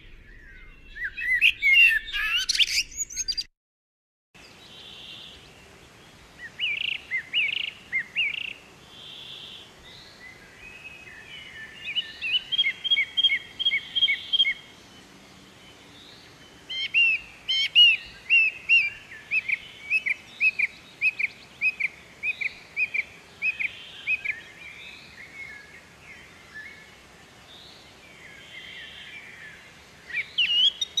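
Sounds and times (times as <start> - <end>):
birds chirping: 0.0 - 3.5, 4.4 - 31.0.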